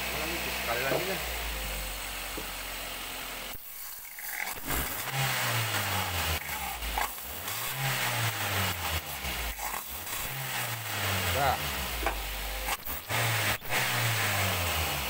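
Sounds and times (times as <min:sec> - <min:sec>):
engine revving up and down: 0:00.0 - 0:15.0.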